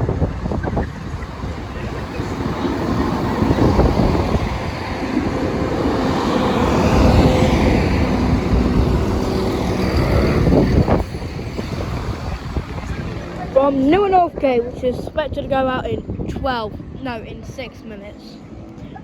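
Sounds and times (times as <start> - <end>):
train rumbling past: 0.0 - 16.1.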